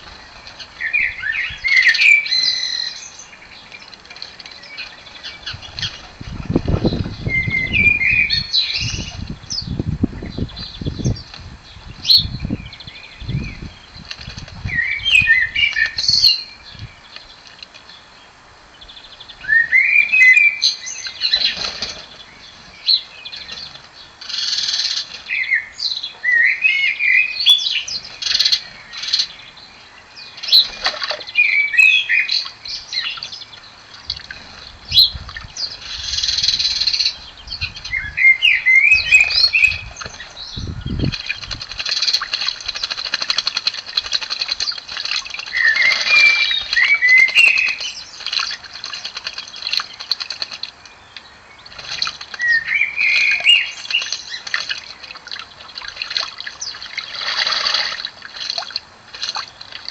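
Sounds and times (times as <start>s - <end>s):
blackbird singing: 0.0s - 41.5s, 42.2s - 55.8s.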